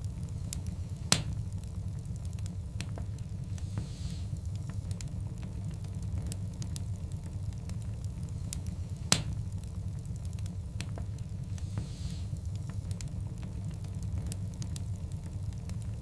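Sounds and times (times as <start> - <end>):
fire popping: 0.0 - 16.0
logs crackling in fire: 0.0 - 16.0.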